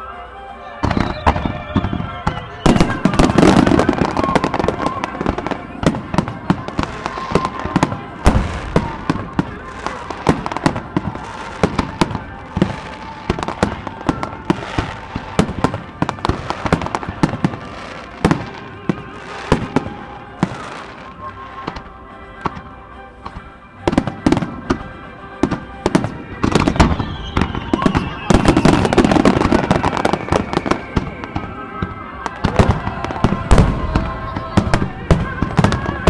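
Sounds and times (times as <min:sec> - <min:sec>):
music playing: 0:00.0 - 0:36.0
fireworks bursting: 0:00.8 - 0:36.0.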